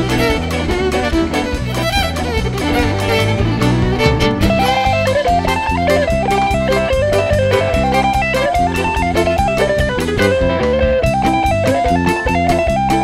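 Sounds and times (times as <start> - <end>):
steady drum beat: 0.0 - 12.8
bass: 0.0 - 13.0
electric guitar: 0.0 - 13.0
fiddle: 0.0 - 13.0.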